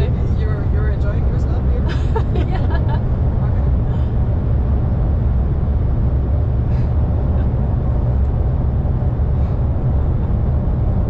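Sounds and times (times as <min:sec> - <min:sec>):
heavy truck rumbling: 0:00.0 - 0:11.0.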